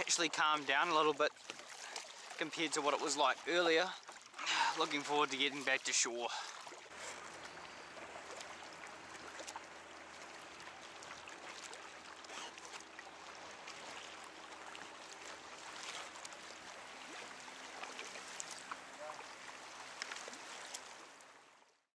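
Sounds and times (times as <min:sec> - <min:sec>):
paddle splashes and drips: 0:00.0 - 0:21.8
water lapping on kayak hull: 0:00.0 - 0:21.8.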